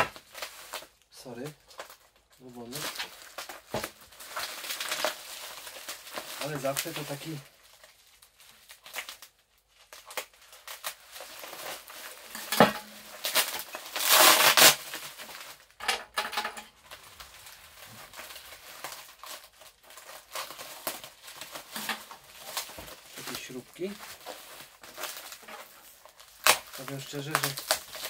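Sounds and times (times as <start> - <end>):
bubble wrap and plastic crinkling: 0.0 - 28.0.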